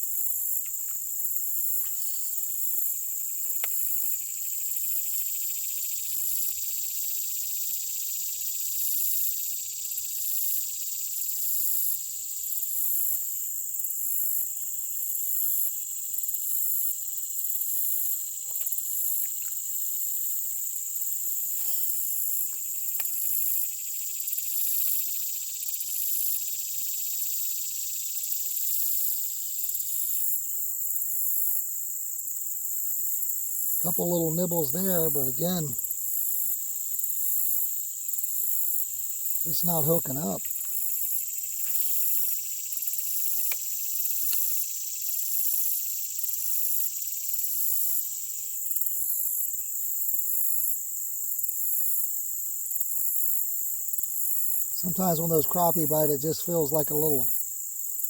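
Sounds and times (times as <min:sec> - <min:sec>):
insects shrilling: 0:00.0 - 0:13.2, 0:13.9 - 0:50.8, 0:52.9 - 0:58.0
pulsing insect trill: 0:00.0 - 0:58.0.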